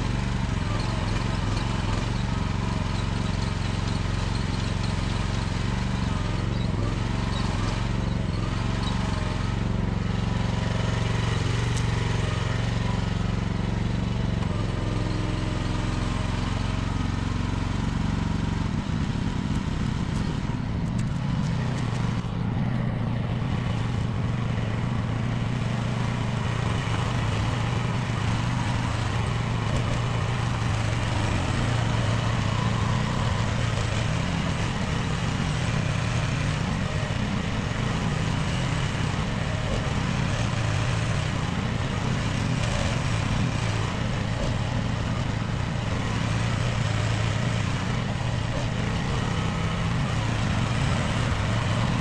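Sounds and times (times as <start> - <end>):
excavator engine droning: 0.0 - 52.0.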